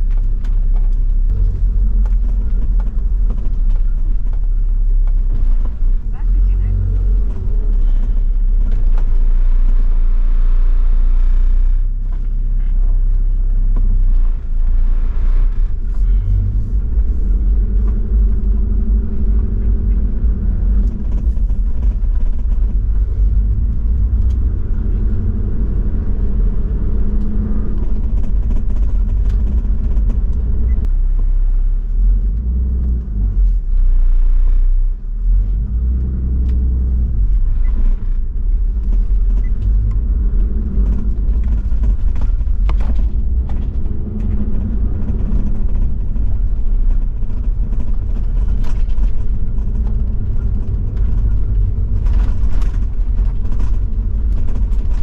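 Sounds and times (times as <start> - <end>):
stones ticking under tyres: 0.0 - 9.8, 11.8 - 30.9, 35.6 - 55.0
diesel engine rumble: 0.0 - 55.0.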